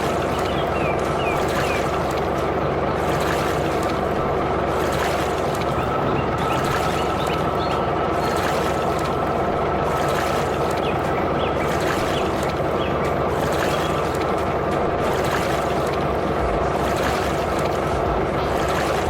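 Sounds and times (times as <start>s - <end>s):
steady engine-like running noise: 0.0s - 19.0s.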